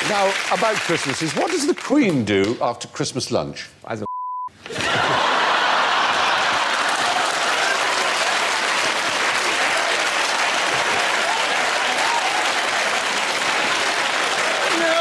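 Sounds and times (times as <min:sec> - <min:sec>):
audience applauding: 0:00.0 - 0:02.2, 0:04.7 - 0:15.0.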